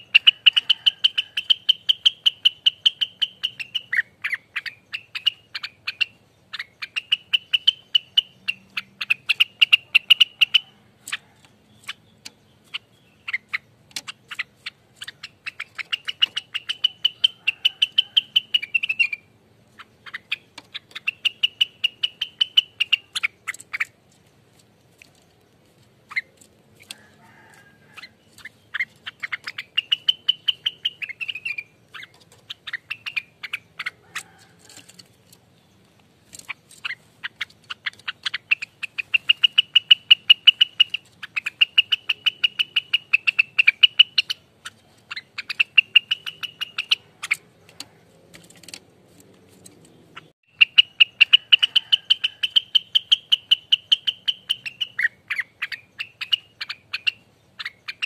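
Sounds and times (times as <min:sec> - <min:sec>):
songbird rapid rattling calls: 0:00.0 - 0:35.6, 0:36.2 - 0:58.0.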